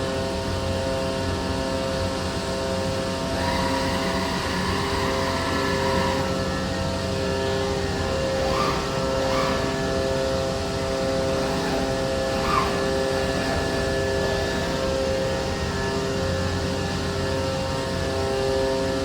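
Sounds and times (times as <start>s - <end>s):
router machine hum: 0.0s - 19.0s.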